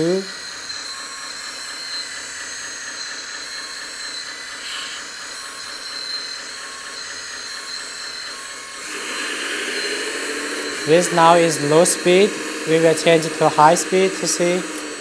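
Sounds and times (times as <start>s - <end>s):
hydraulic pump whining: 0.0s - 15.0s
simulated diesel engine sound: 0.0s - 15.0s.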